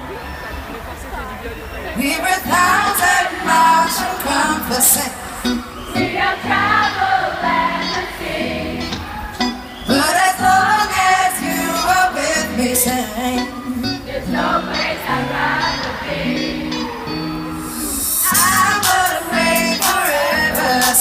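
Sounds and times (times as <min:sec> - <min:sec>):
person singing: 0:02.0 - 0:08.9, 0:09.9 - 0:17.0, 0:17.6 - 0:21.0
live pop band playing: 0:02.2 - 0:21.0.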